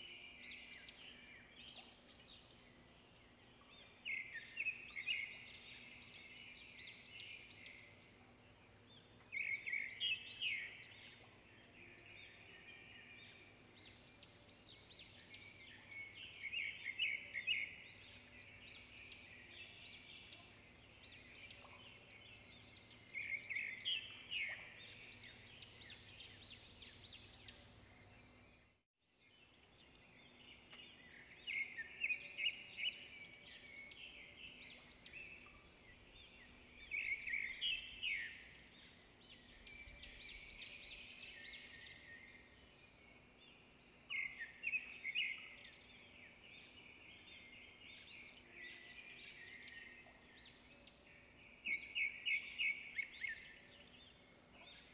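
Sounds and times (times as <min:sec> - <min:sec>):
songbird chirping: 0:00.0 - 0:54.9.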